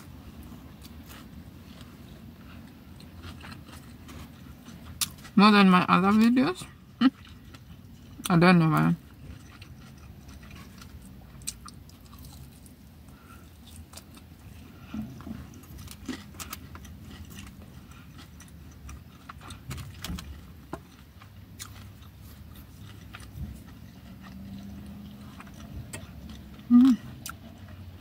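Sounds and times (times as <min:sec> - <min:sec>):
chewing fried chicken: 0:00.0 - 0:28.0
low steady rumble: 0:00.0 - 0:28.0.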